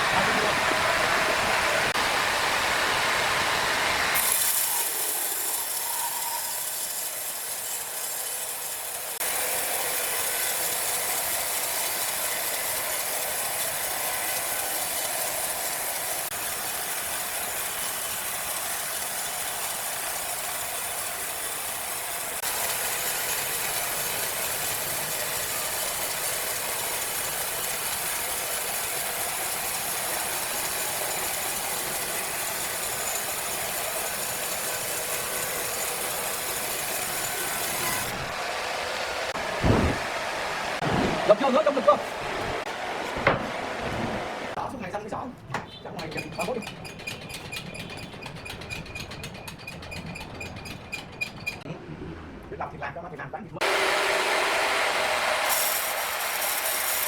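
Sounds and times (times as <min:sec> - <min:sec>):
sawmill machinery clatter: 0:00.0 - 0:44.7, 0:45.5 - 0:51.7, 0:53.6 - 0:57.0.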